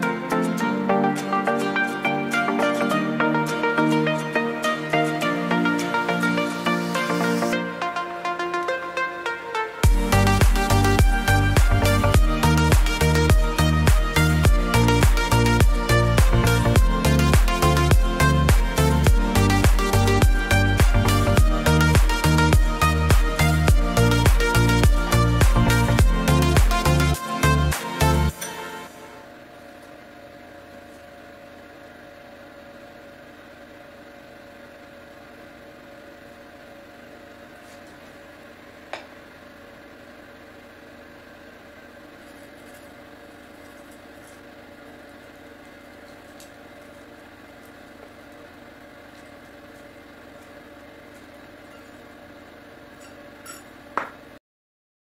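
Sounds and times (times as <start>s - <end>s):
steady machine hum: 0.0s - 54.4s.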